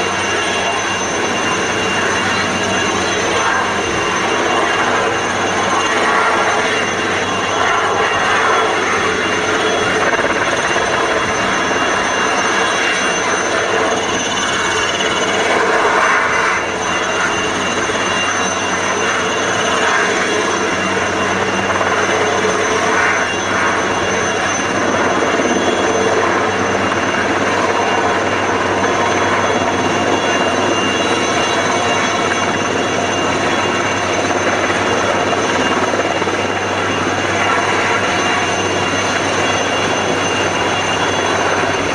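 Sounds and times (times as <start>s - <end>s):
helicopter hovering: 0.0s - 41.9s.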